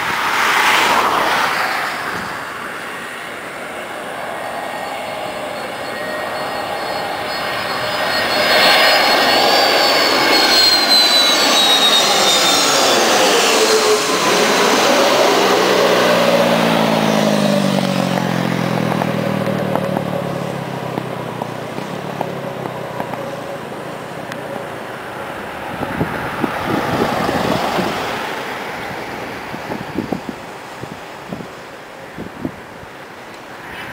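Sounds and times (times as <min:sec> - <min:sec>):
jet airliner engine whine: 0:00.0 - 0:33.9
rough rush of noise: 0:00.0 - 0:33.9.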